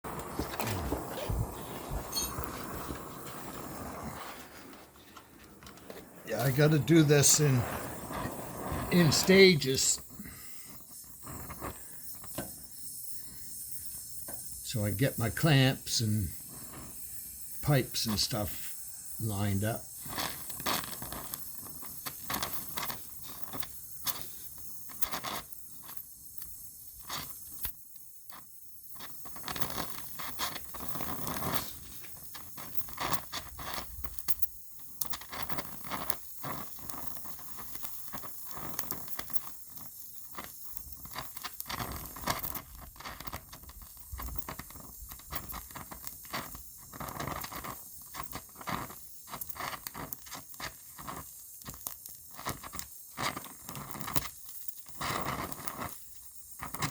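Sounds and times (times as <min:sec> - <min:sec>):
welder crackling and spitting: 0:00.0 - 0:56.9.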